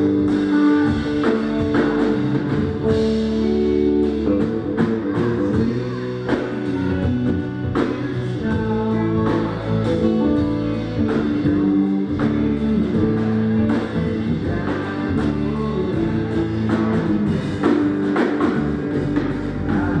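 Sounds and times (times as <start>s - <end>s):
drum kit beat: 0.0s - 20.0s
electric guitars: 0.0s - 20.0s.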